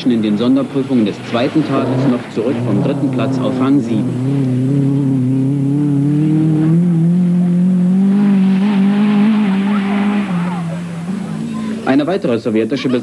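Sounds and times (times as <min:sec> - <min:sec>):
rally car engine at high revs: 0:00.2 - 0:11.9.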